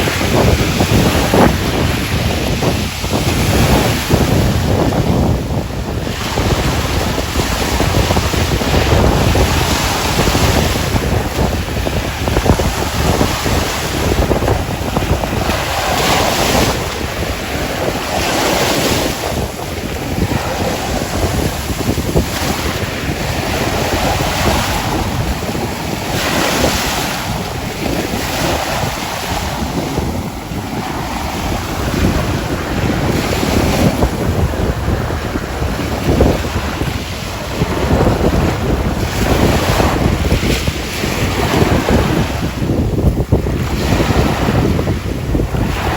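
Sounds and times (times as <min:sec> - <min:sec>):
sea waves washing onto shore: 0:00.0 - 0:45.9
wind buffeting microphone: 0:00.0 - 0:45.9.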